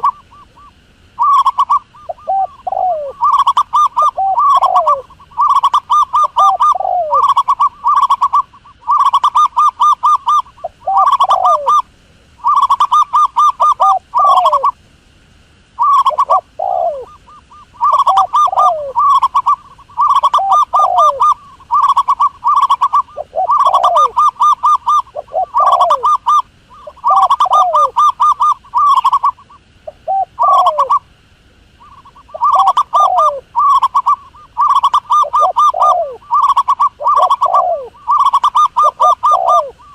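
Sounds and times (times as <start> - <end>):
doves cooing: 0.0 - 14.8, 15.7 - 39.9.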